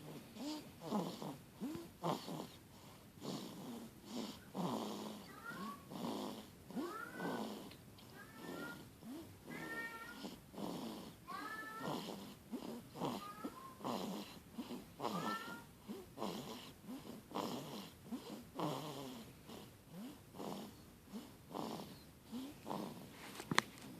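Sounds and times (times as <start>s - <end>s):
baby snoring: 0.0s - 23.2s.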